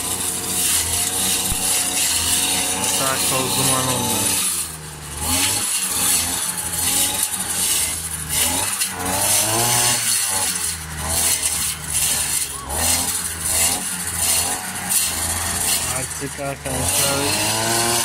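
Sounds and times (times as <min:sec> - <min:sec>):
brush cutter engine under load: 0:00.0 - 0:18.0.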